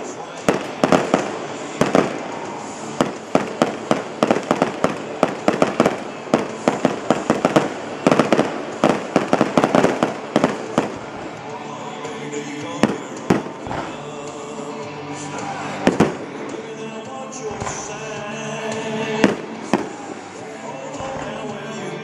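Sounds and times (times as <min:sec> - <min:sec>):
fireworks bangs: 0:00.0 - 0:14.6, 0:15.4 - 0:21.8.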